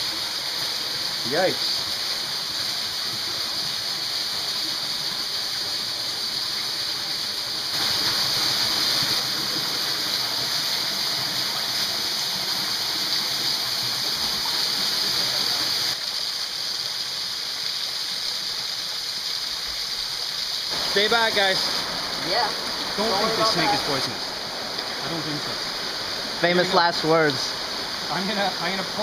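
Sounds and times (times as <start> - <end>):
waterfall rushing: 0.0 - 17.4, 19.2 - 29.0.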